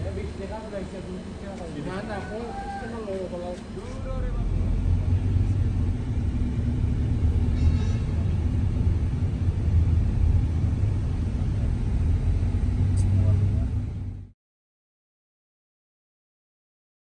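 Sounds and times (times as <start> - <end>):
faint constant hum: 0.0 - 14.3
road vehicle rumble: 0.0 - 14.4.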